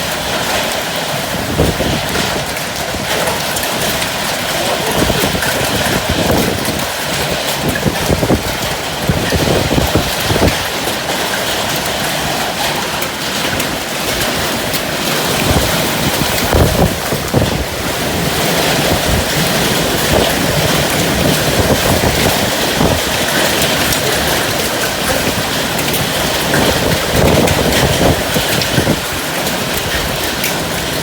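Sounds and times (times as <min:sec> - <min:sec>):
steady rain: 0:00.0 - 0:31.0
wind buffeting microphone: 0:00.0 - 0:31.0.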